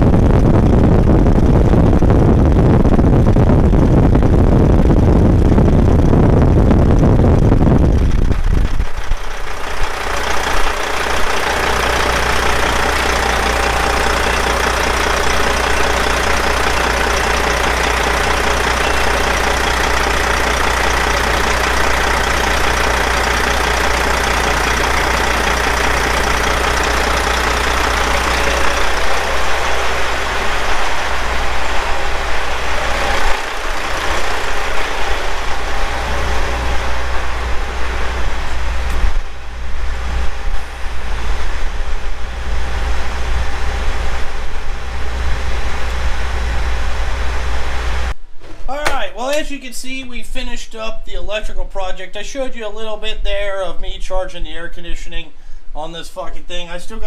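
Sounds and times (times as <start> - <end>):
truck engine idling: 0.0 - 48.1
air conditioning blower rushing: 0.0 - 49.5.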